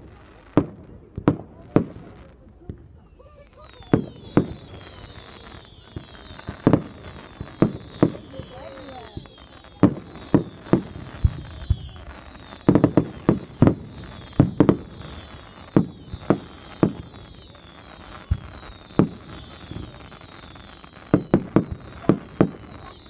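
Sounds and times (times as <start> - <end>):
fireworks banging: 0.0 - 23.0
faint falling whistles: 2.9 - 23.0.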